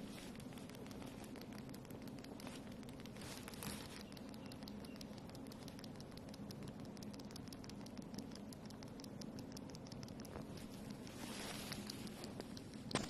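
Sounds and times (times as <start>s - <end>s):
cat licking fur: 0.0s - 13.0s.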